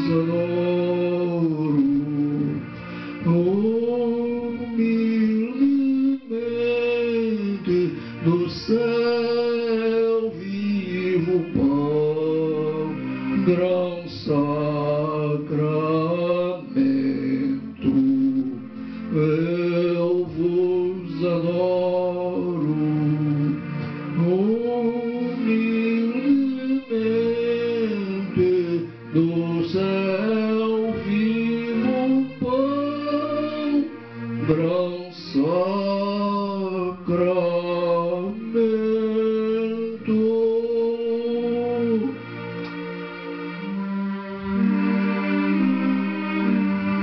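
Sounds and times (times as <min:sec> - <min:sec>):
man singing a hymn: 0:00.0 - 0:42.4
electronic keyboard chords: 0:00.0 - 0:47.0.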